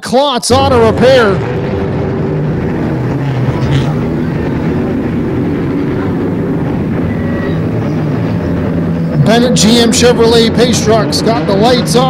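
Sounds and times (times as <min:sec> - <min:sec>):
race car engines: 0:00.4 - 0:12.0.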